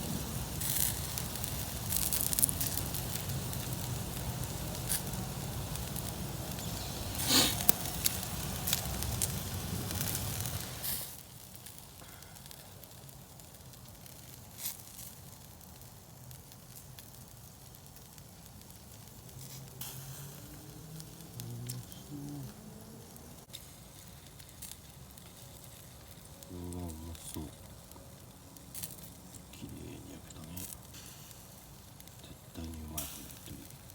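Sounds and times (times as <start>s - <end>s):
campfire crackling and popping: 0.0s - 33.9s.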